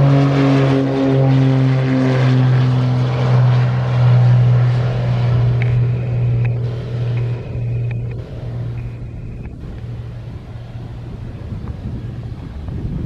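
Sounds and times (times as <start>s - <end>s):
propeller airplane engines droning: 0.0s - 13.0s.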